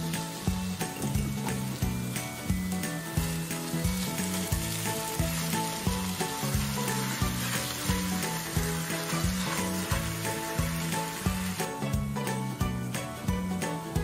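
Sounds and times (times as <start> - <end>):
background music with steady beat: 0.0 - 14.0
meat and onion sizzling: 0.0 - 14.0
spatulas stirring meat: 0.1 - 11.8.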